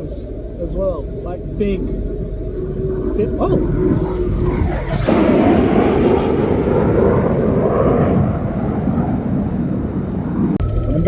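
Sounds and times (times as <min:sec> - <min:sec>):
choppy water around boat: 0:00.0 - 0:11.0
steady hum: 0:00.0 - 0:11.0
wind buffeting microphone: 0:00.0 - 0:11.0
wind rushing: 0:00.0 - 0:11.0.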